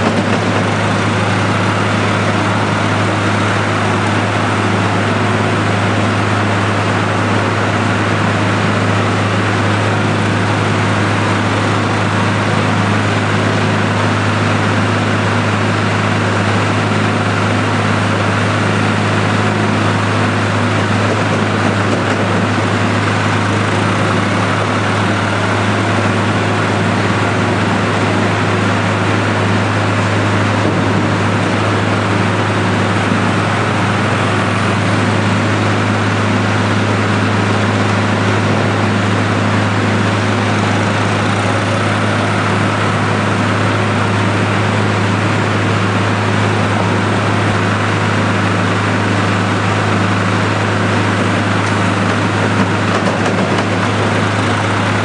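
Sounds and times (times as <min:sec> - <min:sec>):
feed mixer droning: 0:00.0 - 0:55.0.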